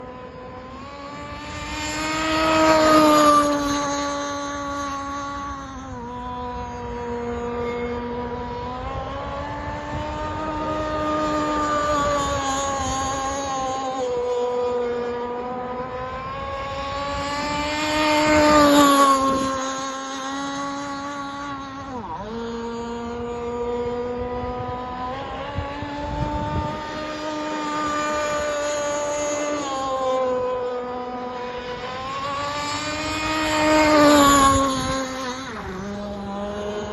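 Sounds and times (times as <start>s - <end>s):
model boat engine at high speed: 0.0s - 36.9s.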